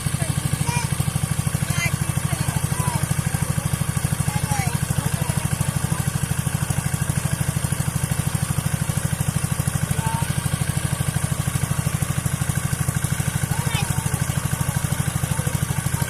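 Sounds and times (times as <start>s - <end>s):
diesel pump engine running: 0.0s - 16.0s.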